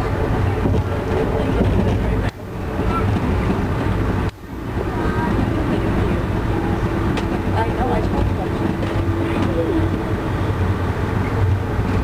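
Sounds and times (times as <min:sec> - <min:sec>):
train rumble from inside: 0:00.0 - 0:12.0
wheels on track: 0:00.0 - 0:12.0.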